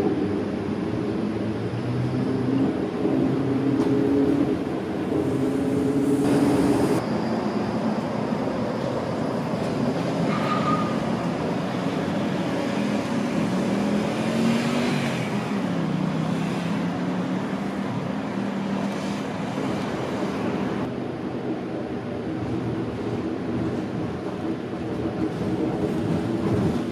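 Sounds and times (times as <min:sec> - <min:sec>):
tram rolling with motor hum: 0:00.0 - 0:26.9.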